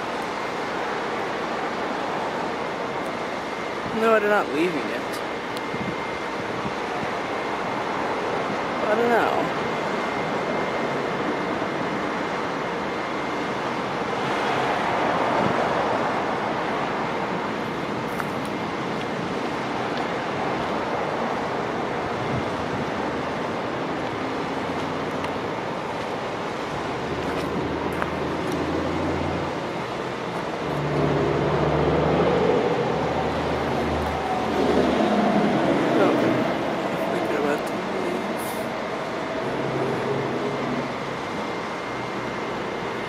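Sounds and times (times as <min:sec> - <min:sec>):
diesel locomotive idling: 0:00.0 - 0:43.0
steady background rush: 0:00.0 - 0:43.0
low engine hum: 0:04.6 - 0:43.0.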